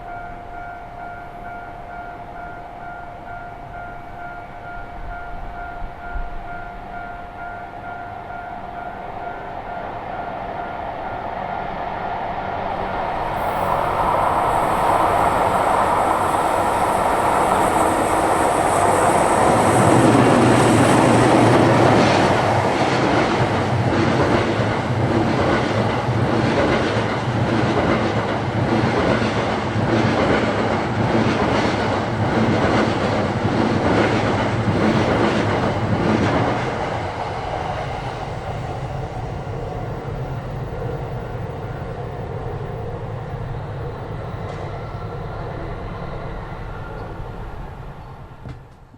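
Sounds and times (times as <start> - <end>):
electric locomotives passing: 0.0 - 48.9.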